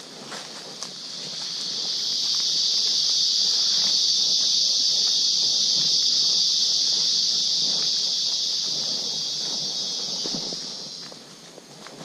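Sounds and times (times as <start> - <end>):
insects buzzing drone: 0.0 - 12.0.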